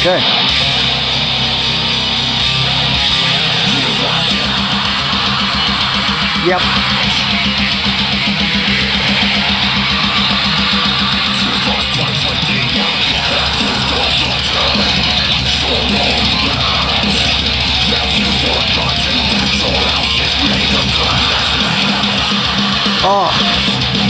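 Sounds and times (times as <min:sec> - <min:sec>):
metalcore song: 0:00.0 - 0:24.0.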